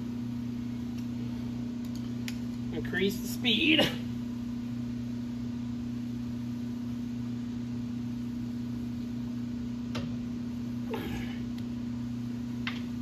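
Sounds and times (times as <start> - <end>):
lathe electrical hum: 0.0 - 13.0.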